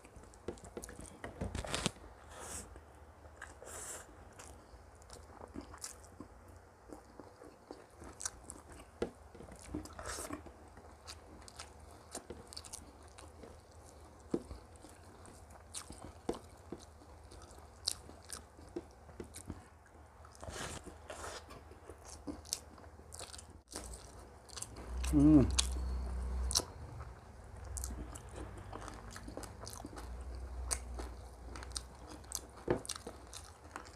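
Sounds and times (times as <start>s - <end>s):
low steady hum: 0.0s - 33.9s
person chewing crunchy food: 3.2s - 33.9s.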